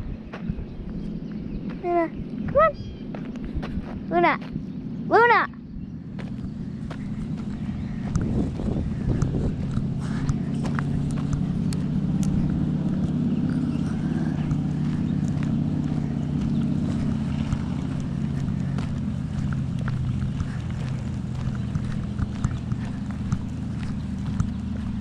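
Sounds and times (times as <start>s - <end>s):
low engine hum: 0.0s - 25.0s
footsteps on gravel: 0.3s - 4.6s, 6.1s - 25.0s.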